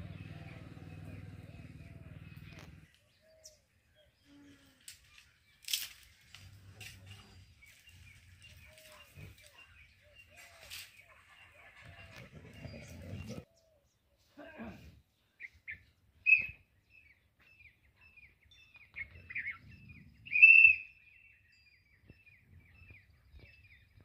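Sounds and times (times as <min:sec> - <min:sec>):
birds chirping: 0:00.0 - 0:14.3, 0:14.9 - 0:24.0.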